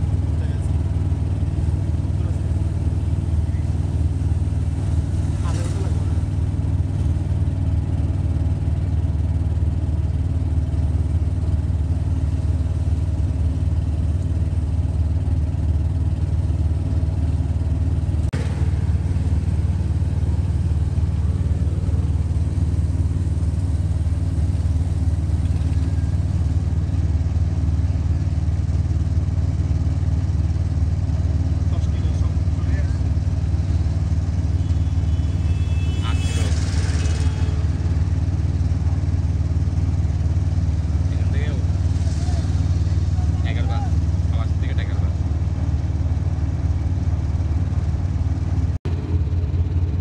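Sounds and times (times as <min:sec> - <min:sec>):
vehicle engine and road rumble: 0:00.0 - 0:50.0.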